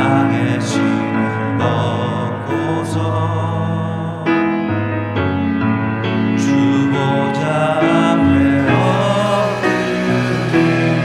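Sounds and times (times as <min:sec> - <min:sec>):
piano playing held chords: 0:00.0 - 0:11.0.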